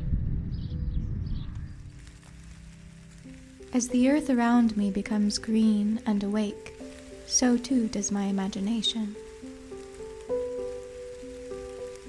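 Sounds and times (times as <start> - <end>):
gentle slow melody: 0.0 - 12.0
faint rain pattering: 1.5 - 12.0.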